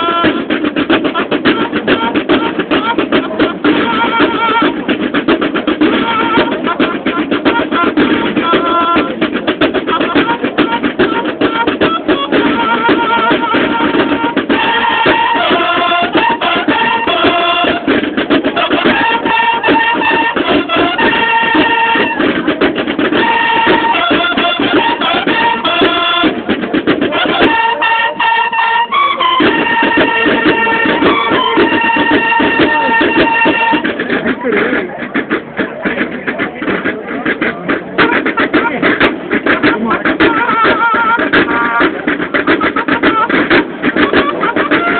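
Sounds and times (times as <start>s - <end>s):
bugles playing held notes: 0.0s - 44.9s
low drumming: 0.0s - 44.9s
rapid snare drumming: 0.0s - 44.9s.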